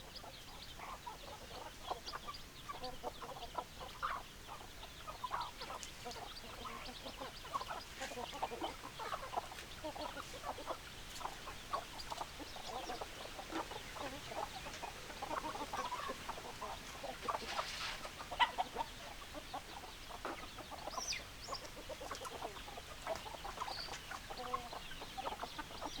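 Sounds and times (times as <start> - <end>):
hens clucking: 0.1 - 26.0.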